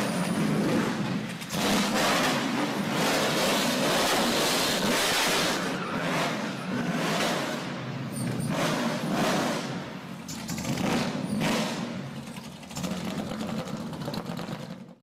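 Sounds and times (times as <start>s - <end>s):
engine revving and idling: 0.0s - 15.0s.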